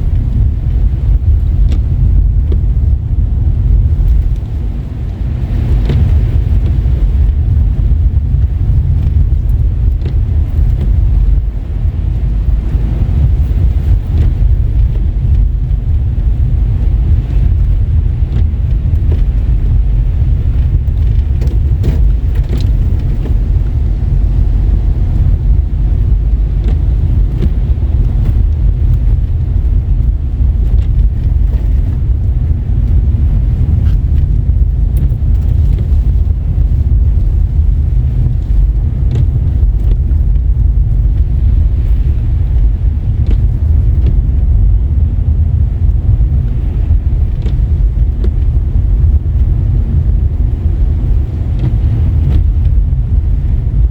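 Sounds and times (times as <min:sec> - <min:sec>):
car engine and tyres rumbling: 0:00.0 - 0:53.9.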